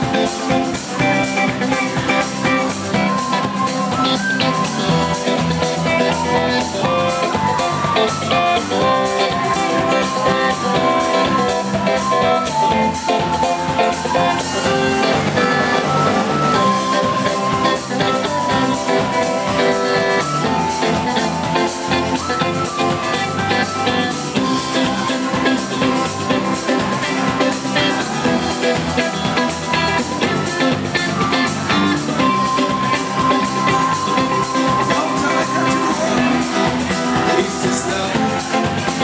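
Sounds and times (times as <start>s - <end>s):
drum kit with cymbals: 0.0s - 39.0s
electric and acoustic guitars: 0.0s - 39.0s
keyboard melody: 0.0s - 39.0s.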